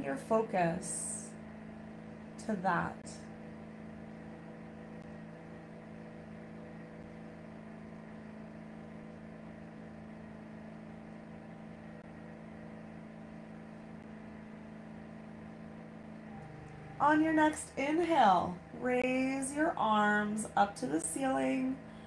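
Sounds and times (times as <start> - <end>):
steady low hum of held tones: 0.0 - 22.0.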